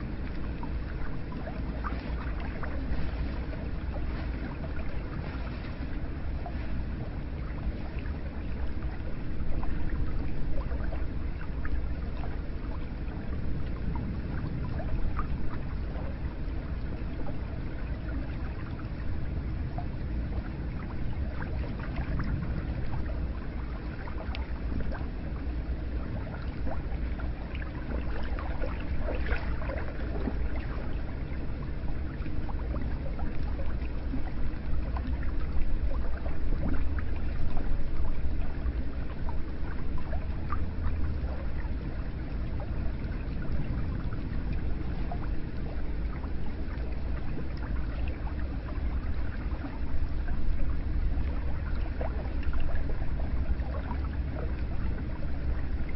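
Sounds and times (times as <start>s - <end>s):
water drips and splashes: 0.0s - 55.9s.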